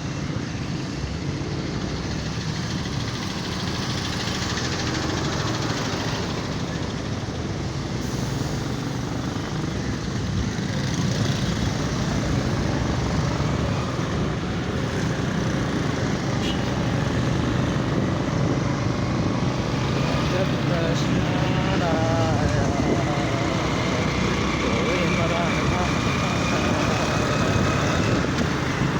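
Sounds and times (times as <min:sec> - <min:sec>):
road noise: 0:00.0 - 0:28.9
motorcycle engine hum: 0:01.8 - 0:28.9.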